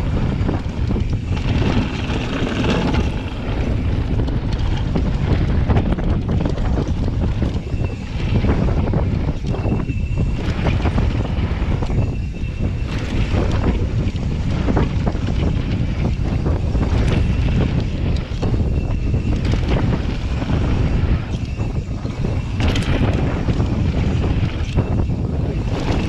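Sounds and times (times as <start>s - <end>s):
bike rattling and knocking: 0.0s - 26.0s
tyre noise on dirt: 0.0s - 26.0s
wind buffeting microphone: 0.0s - 26.0s.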